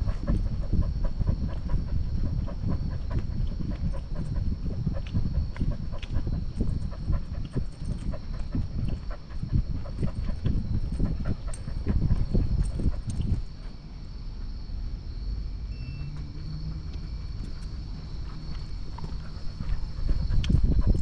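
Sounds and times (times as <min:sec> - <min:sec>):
dog breathing: 0:00.0 - 0:13.8, 0:16.2 - 0:21.0.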